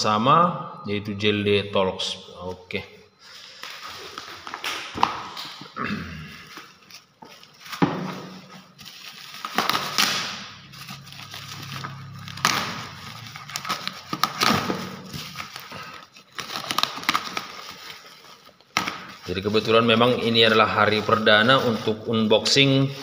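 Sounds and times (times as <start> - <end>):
plastic bag crinkling: 3.2 - 23.0.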